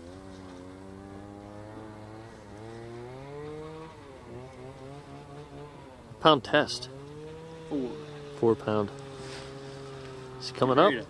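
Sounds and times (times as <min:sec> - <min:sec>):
small engine revving: 0:00.0 - 0:11.0.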